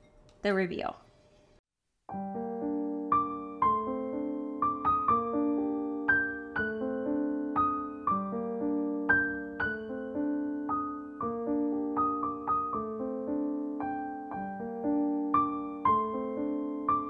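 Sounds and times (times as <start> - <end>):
piano music: 2.1 - 17.0.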